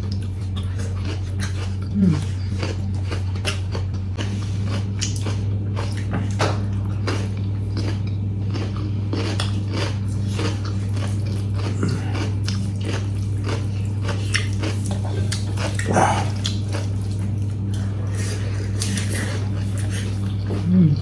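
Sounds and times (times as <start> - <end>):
food being bitten and chewed: 0.0 - 21.0
steady low hum: 0.0 - 21.0
wet mouth smacks and crunches: 0.1 - 17.2.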